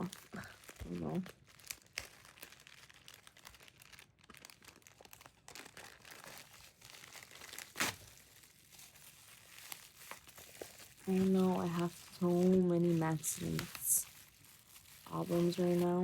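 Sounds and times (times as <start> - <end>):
packaging rustling: 0.0 - 16.0.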